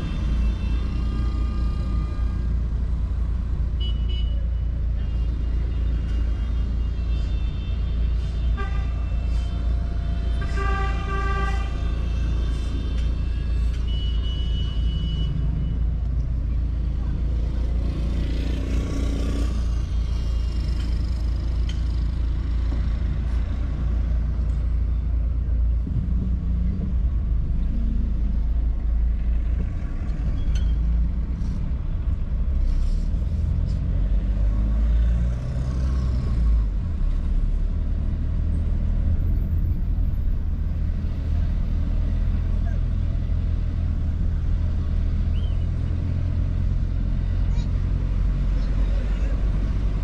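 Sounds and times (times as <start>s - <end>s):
car driving low rumble: 0.0s - 50.0s
surrounding traffic noise: 0.0s - 50.0s.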